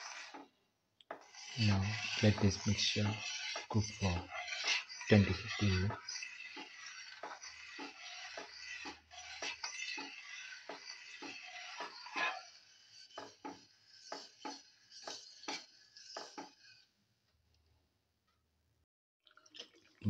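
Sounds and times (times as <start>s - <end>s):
metal spoon scraping pan: 0.0s - 0.5s, 1.1s - 16.9s.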